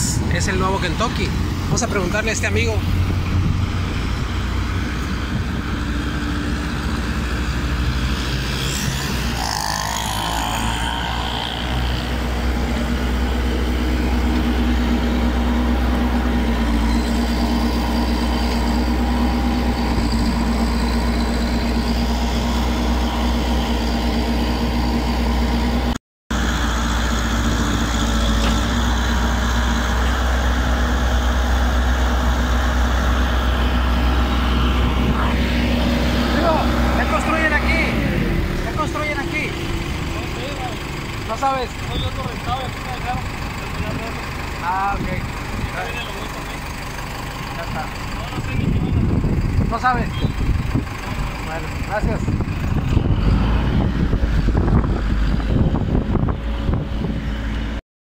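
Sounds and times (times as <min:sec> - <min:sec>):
diesel engine running: 0:00.0 - 0:57.8.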